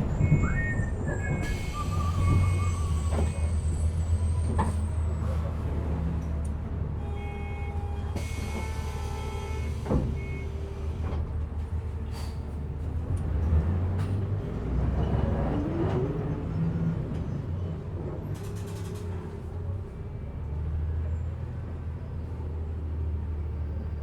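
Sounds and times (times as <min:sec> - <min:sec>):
bus engine running: 0:00.0 - 0:24.0.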